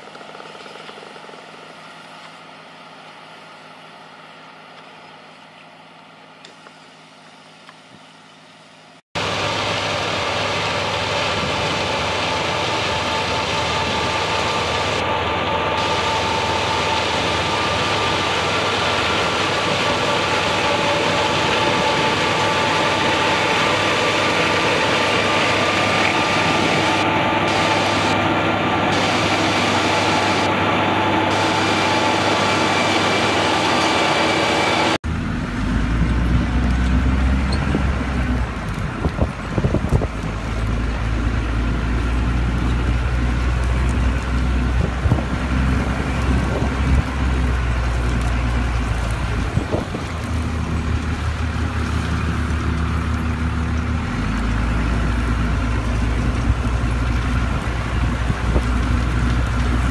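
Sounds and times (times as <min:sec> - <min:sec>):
distant tractor engine drone: 0:00.0 - 0:59.9
tractor machine noise with whining: 0:00.0 - 0:59.9.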